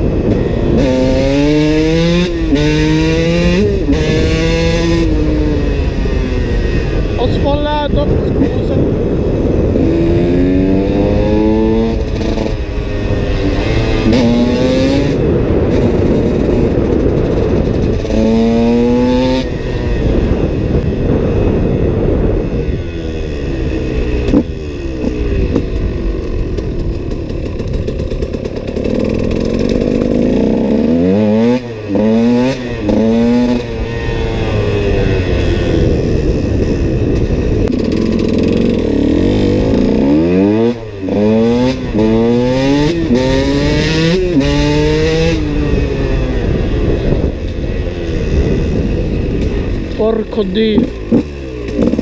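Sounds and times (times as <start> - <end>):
two-stroke engine revving: 0.0 - 52.0.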